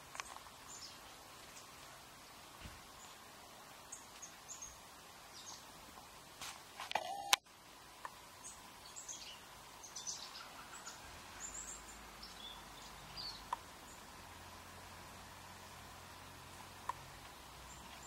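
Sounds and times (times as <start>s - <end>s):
small birds chirping: 0.0s - 6.2s, 7.1s - 18.0s
faint outdoor hiss: 0.0s - 18.0s.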